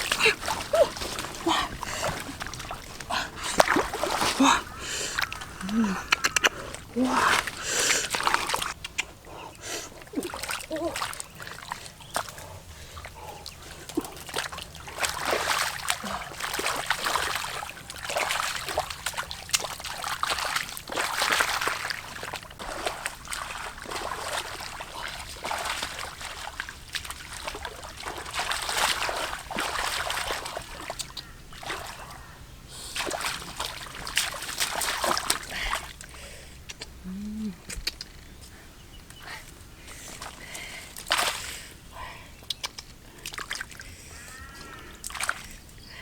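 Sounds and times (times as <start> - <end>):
water dripping: 0.0 - 32.2, 40.0 - 45.8
shallow water splashing: 0.0 - 36.3, 39.8 - 41.9.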